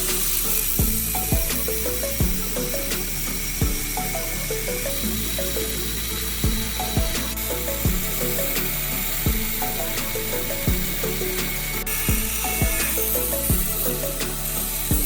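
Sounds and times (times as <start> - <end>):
electronic music with kick drum: 0.0 - 15.0
steady high whine: 0.0 - 15.0.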